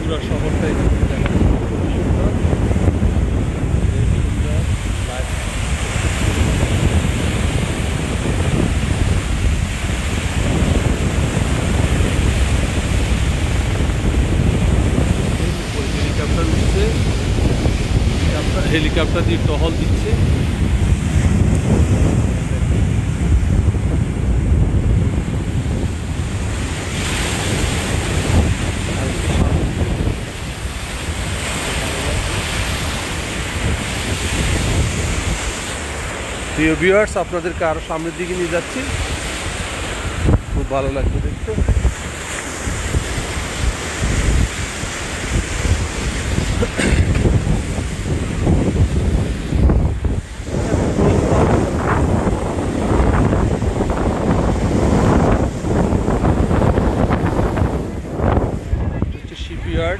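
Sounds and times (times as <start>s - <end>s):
waves breaking on sandy beach: 0.0s - 59.9s
wind rumble on microphone: 0.0s - 59.9s.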